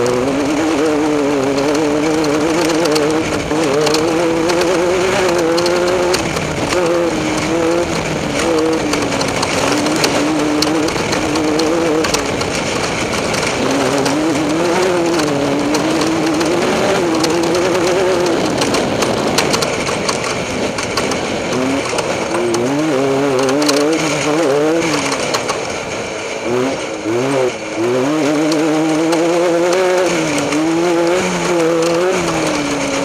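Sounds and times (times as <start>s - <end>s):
race vehicle engine revving: 0.0s - 33.0s
rattles and knocks: 0.0s - 33.0s
wind and terrain noise: 0.0s - 33.0s.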